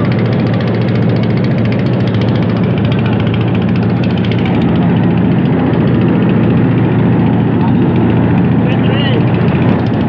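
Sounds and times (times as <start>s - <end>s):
boat engine chugging: 0.0s - 10.0s
water splashing along hull: 0.0s - 10.0s.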